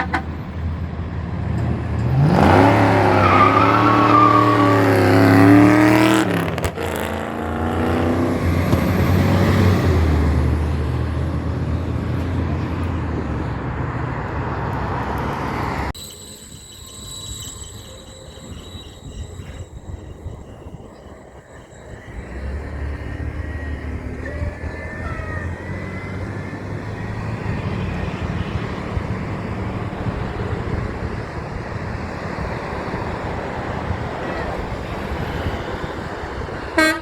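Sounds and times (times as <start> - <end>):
heavy truck engine rumble: 0.0 - 37.0
loud road noise: 0.0 - 37.0.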